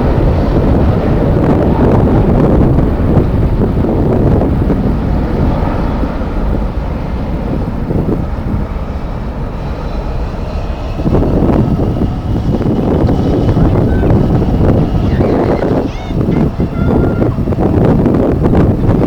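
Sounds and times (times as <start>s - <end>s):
faint engine whine: 0.0s - 19.0s
jet engines running: 0.0s - 19.0s
wind buffeting microphone: 0.0s - 19.0s.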